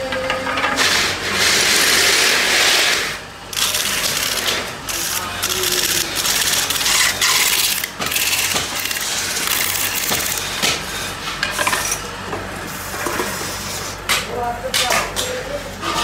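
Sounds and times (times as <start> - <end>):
workshop motor hum: 0.0 - 16.0.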